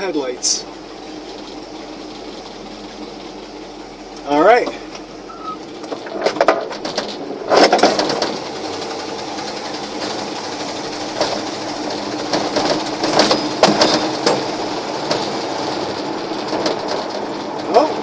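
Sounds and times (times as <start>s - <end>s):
truck engine droning: 0.0s - 18.0s
truck body clattering and knocking: 1.1s - 18.0s.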